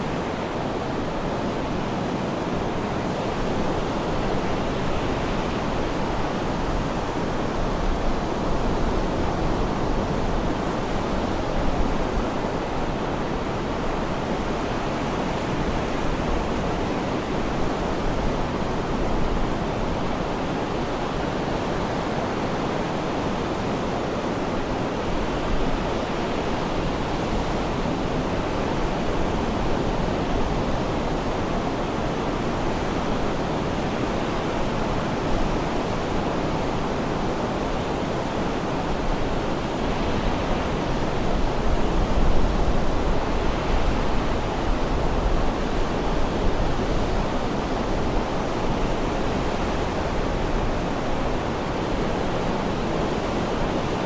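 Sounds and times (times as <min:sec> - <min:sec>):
sea surf washing: 0:00.0 - 0:54.0.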